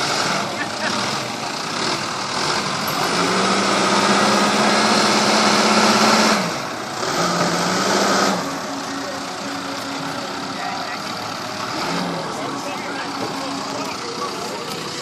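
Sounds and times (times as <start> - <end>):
heavy diesel engine revving: 0.0 - 15.0.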